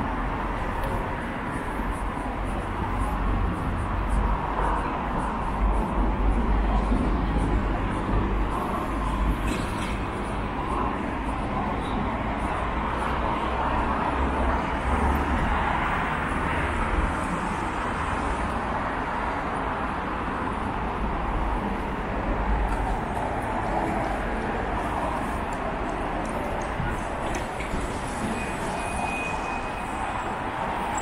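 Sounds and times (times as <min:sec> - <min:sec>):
cars passing: 0:00.0 - 0:31.0
low traffic rumble: 0:00.0 - 0:31.0.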